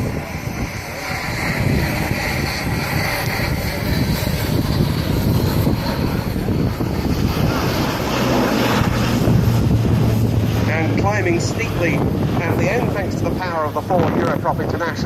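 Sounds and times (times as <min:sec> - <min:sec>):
turboprop aircraft droning: 0:00.0 - 0:15.0.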